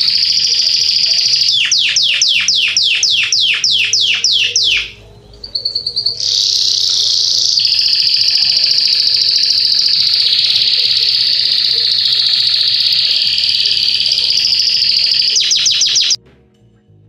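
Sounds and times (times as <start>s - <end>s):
canary singing: 0.0s - 16.2s.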